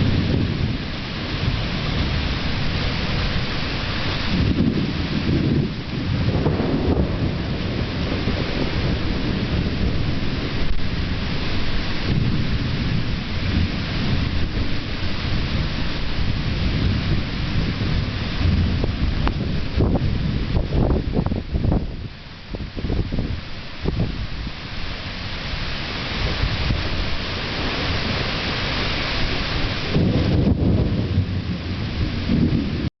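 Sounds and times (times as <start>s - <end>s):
low rumbling thunder: 0.0s - 32.9s
steady rain: 0.0s - 32.9s.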